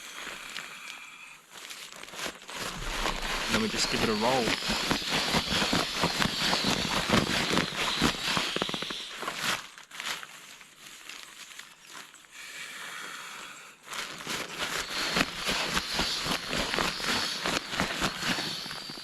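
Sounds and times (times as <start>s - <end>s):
nylon sack rustling and crinkling: 0.0s - 12.4s, 13.8s - 19.0s.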